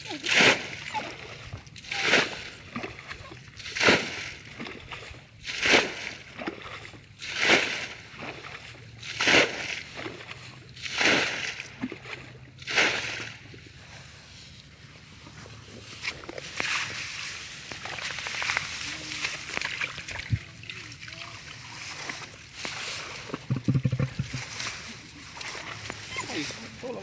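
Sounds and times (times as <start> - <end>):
water splashing onto ground: 0.0 - 13.6, 15.8 - 27.0.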